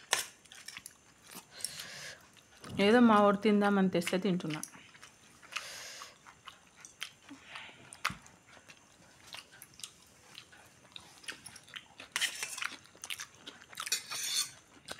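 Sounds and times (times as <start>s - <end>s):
person chewing noodles: 0.0s - 2.8s, 4.5s - 14.9s.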